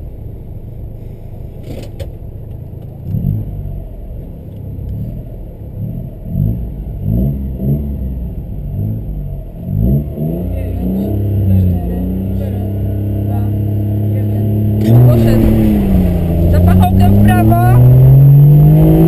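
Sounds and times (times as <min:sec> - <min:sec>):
small car engine idling and revving: 0:00.0 - 0:19.0.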